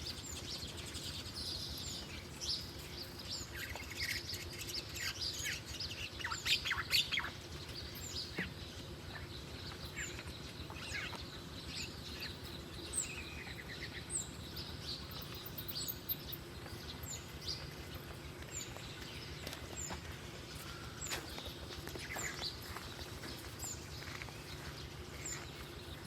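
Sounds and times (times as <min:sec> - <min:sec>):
birds chirping: 0:00.0 - 0:26.0
low background hum: 0:00.0 - 0:26.0.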